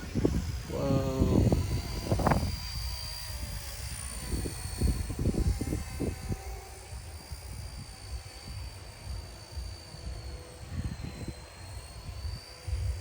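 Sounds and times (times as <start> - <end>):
model helicopter rotor whine: 0.0 - 13.0
wind gusts buffeting microphone: 0.0 - 13.0.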